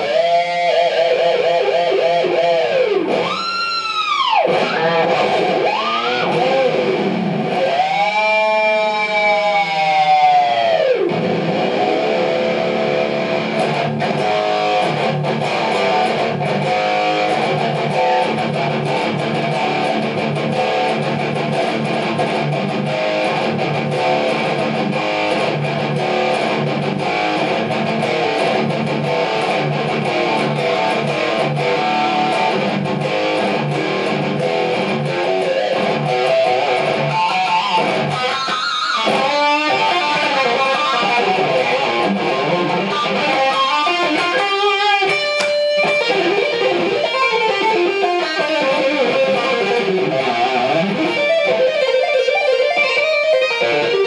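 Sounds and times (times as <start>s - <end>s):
electric guitar lead playing: 0.0s - 54.0s.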